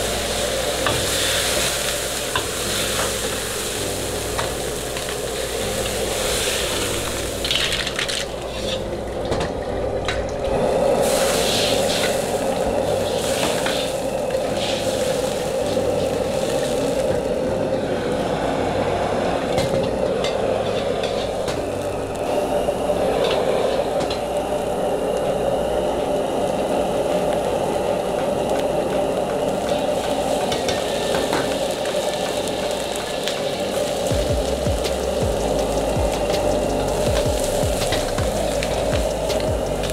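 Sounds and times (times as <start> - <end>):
gas burner rushing flame: 0.0 - 39.9.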